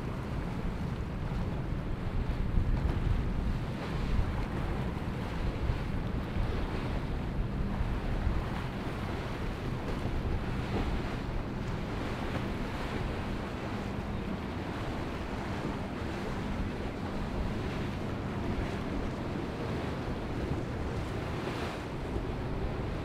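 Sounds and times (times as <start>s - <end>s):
rushing water from boat wake: 0.0s - 23.0s
wind on microphone: 0.0s - 23.0s.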